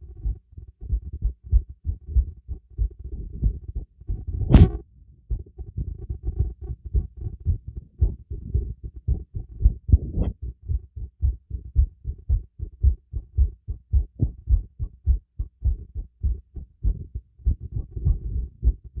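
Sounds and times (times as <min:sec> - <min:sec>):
heartbeat through stethoscope: 0:00.0 - 0:19.0.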